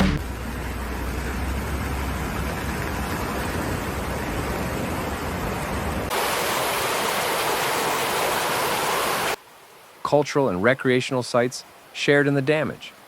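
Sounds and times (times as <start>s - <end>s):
rushing flowing water: 0.4s - 13.0s.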